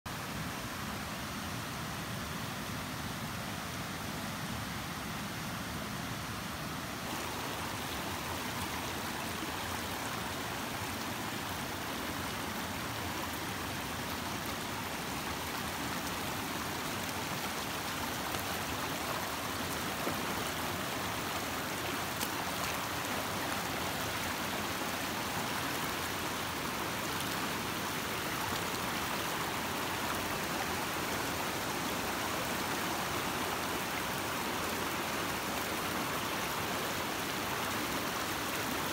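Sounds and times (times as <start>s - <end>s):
river flowing over stones: 0.1s - 38.9s.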